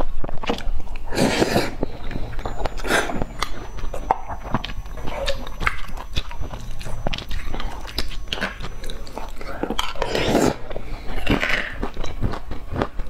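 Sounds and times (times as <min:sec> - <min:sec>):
person chewing food: 0:00.3 - 0:13.0.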